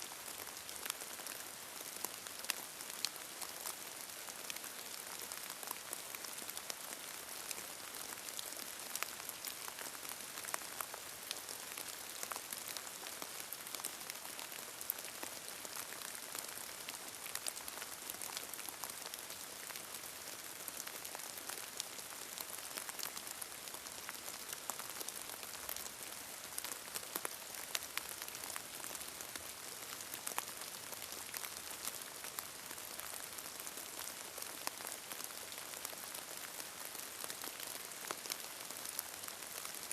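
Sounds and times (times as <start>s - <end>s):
steady rain falling: 0.0s - 39.9s
raindrops ticking on a surface: 0.1s - 39.9s.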